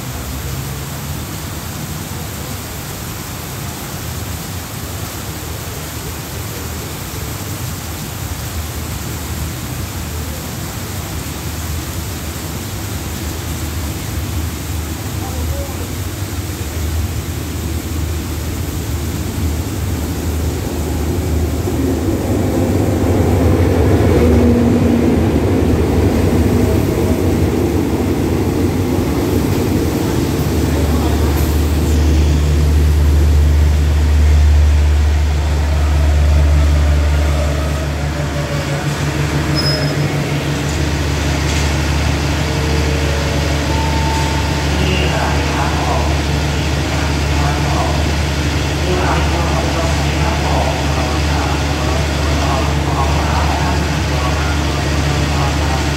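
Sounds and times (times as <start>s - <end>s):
diesel engine low hum: 0.0s - 55.9s
heavy rain falling: 0.0s - 55.9s
passenger train rolling in: 0.0s - 55.9s.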